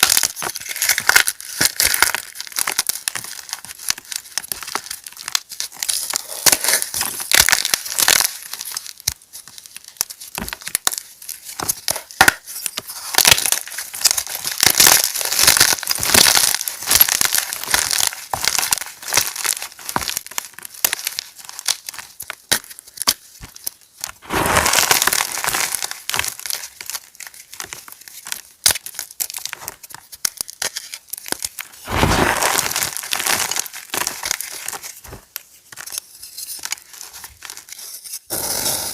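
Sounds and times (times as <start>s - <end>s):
chalk crackling and crumbling: 0.0s - 38.9s
loud chalk crunches: 0.0s - 38.9s.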